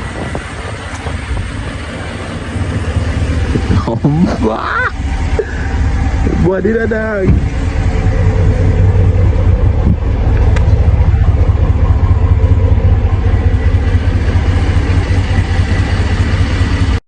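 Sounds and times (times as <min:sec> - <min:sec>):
snowplow engine rumbling: 0:00.0 - 0:17.0.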